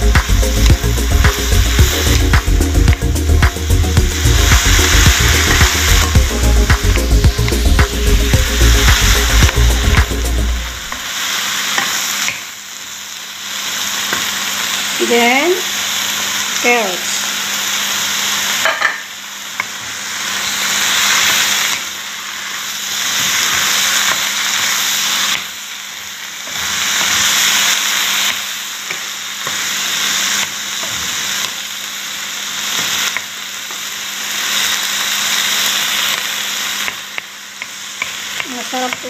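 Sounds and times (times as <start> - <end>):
vegetables sizzling in a wok: 0.0 - 39.0.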